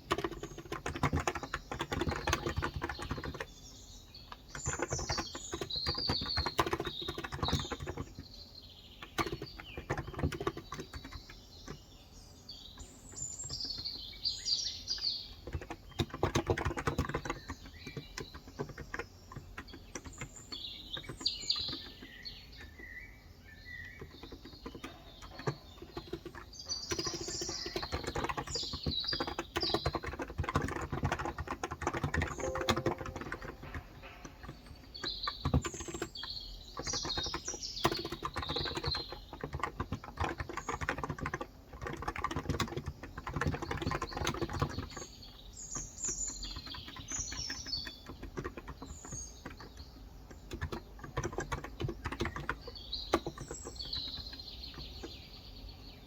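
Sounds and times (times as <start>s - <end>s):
fast typing on a keyboard: 0.0s - 12.0s, 12.7s - 55.7s
small birds chirping: 0.0s - 56.0s.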